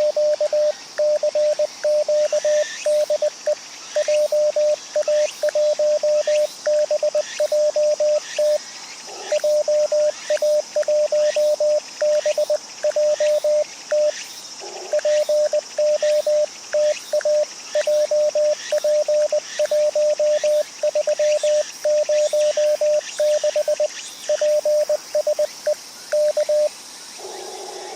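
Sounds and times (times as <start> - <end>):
morse code beeps: 0.0 - 8.6, 9.4 - 14.1, 14.9 - 25.5, 26.2 - 26.7.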